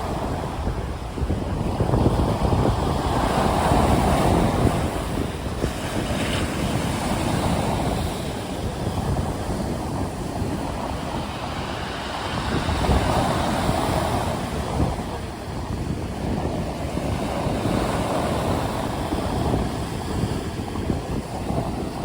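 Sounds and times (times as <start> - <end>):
stormy sea waves surging: 0.0 - 22.0
wind rumbling on microphone: 0.0 - 22.0.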